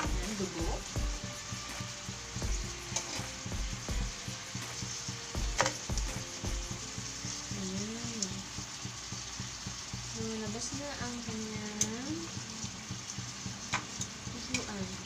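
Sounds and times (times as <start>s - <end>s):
chicken livers sizzling in a pan: 0.0s - 15.0s.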